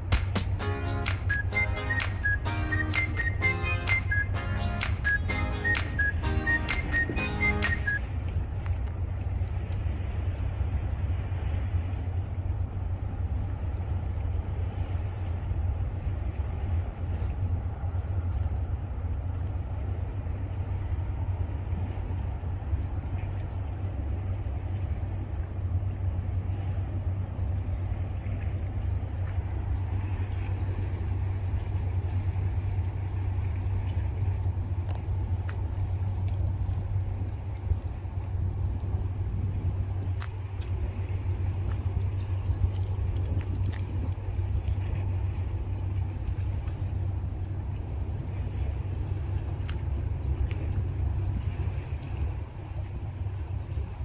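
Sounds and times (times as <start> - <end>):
faint wash of noise: 0.0 - 54.0.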